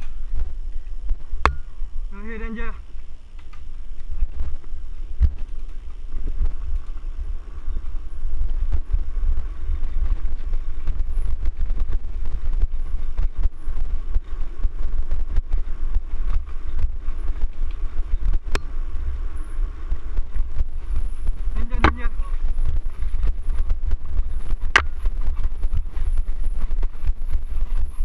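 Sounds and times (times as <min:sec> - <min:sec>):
bike rattling over bumps: 0:00.0 - 0:28.0
wind rumbling on microphone: 0:00.0 - 0:28.0.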